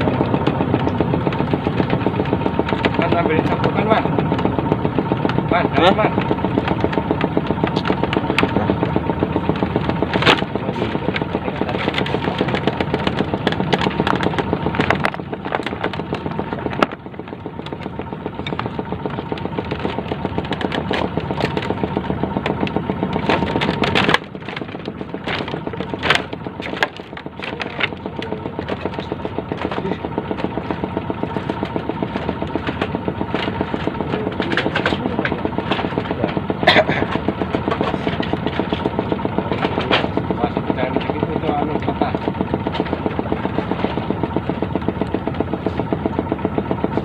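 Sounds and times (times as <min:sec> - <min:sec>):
wood knocking and cracking: 0:00.0 - 0:05.4, 0:06.1 - 0:40.4, 0:41.8 - 0:45.9
small engine running: 0:00.0 - 0:47.0.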